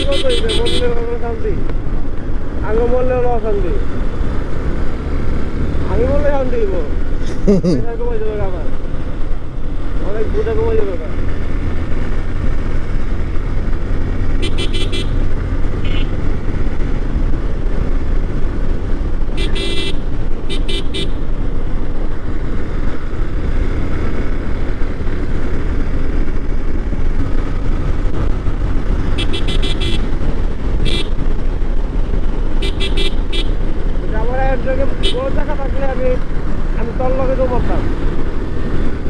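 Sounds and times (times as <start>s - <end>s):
motorcycle engine drone: 0.0s - 39.0s
road and wind noise: 0.0s - 39.0s.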